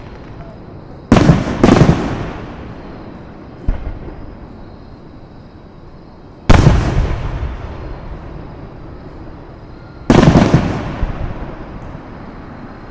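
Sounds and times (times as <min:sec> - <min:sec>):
fireworks booming: 0:00.0 - 0:05.0, 0:06.4 - 0:12.7.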